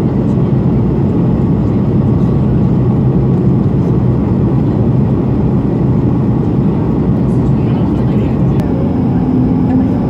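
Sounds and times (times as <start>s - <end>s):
airplane cabin drone: 0.0s - 10.0s.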